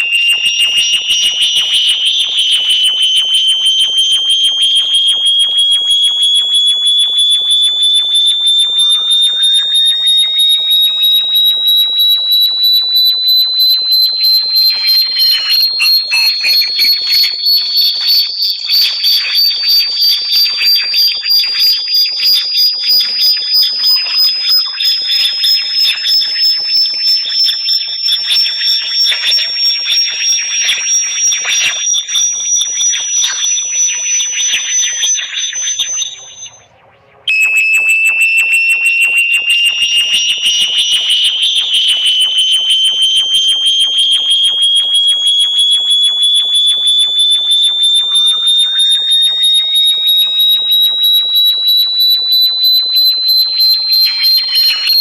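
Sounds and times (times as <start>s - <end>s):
gliding electronic chirps: 0.0s - 55.0s
pulsing high-pitched electronic tone: 0.0s - 55.0s.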